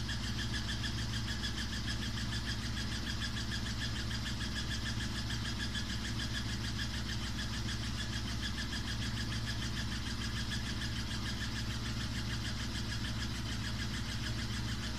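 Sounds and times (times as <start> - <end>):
washing machine humming and pulsing: 0.0 - 14.9.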